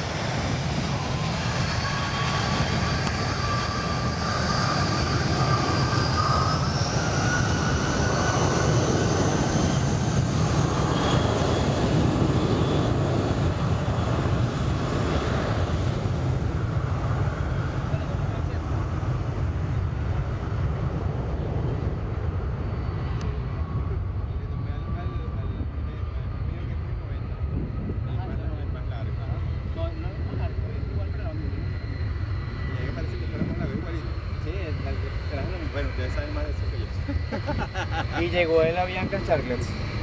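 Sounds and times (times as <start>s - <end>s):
jet engines rumbling and whining: 0.0s - 40.0s.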